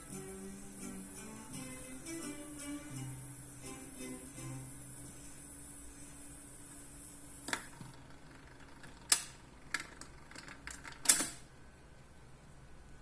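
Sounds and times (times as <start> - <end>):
record player hum: 0.0 - 13.0.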